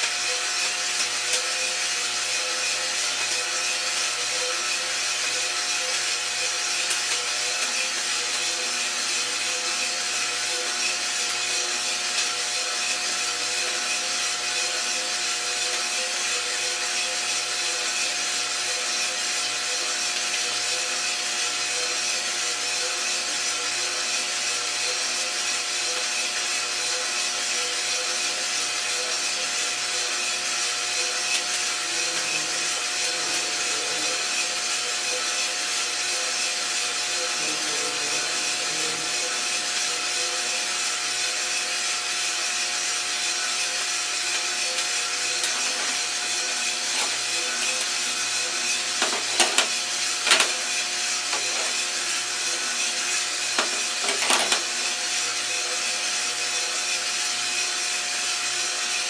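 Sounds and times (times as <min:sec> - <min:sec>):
coffee beans tumbling: 0:00.0 - 0:59.0
coffee roaster whirring: 0:00.0 - 0:59.0.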